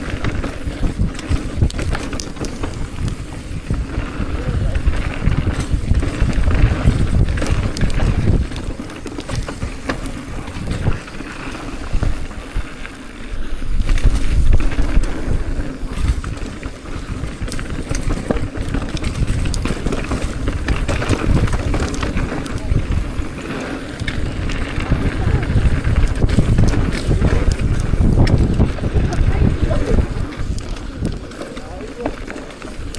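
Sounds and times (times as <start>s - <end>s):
bike rattling clicks and knocks: 0.0s - 32.9s
tyre rumble: 0.0s - 32.9s
wind buffeting microphone: 0.0s - 32.9s.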